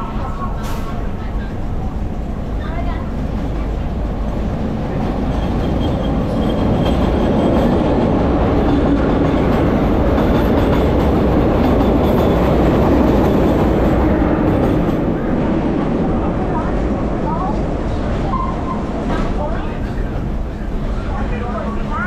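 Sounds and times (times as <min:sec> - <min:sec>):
subway car wheels clattering: 0:00.0 - 0:22.0
subway train passing: 0:00.0 - 0:22.0.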